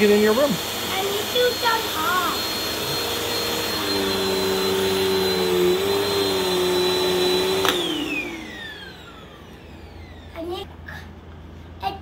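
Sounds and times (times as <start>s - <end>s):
vacuum cleaner whining: 0.0s - 10.3s.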